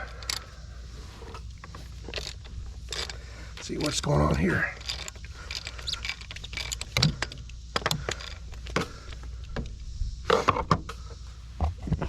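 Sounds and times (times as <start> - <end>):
clicks and knocks of tools: 0.0 - 12.0
low hum: 0.0 - 12.0.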